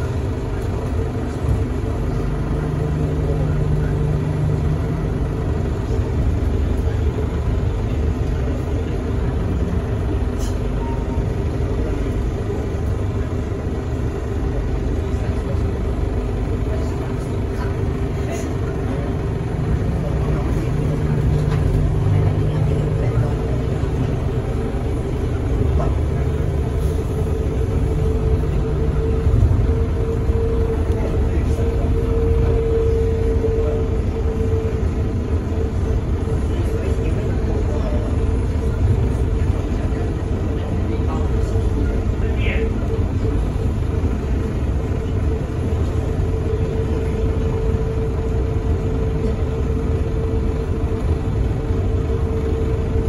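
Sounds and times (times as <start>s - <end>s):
constant hum: 0.0s - 53.0s
people mover low rumble: 0.0s - 53.0s
people mover whine: 0.0s - 53.0s.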